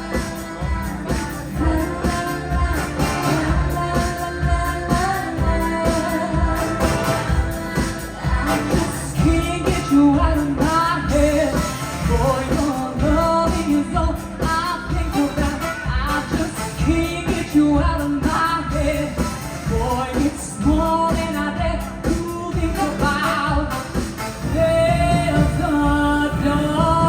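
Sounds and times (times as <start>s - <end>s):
live pop music with singer: 0.0s - 27.0s.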